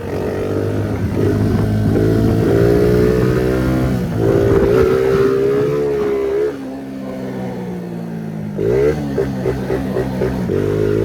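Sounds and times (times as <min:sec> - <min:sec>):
small motorcycle engine revving: 0:00.0 - 0:07.8, 0:08.5 - 0:11.0.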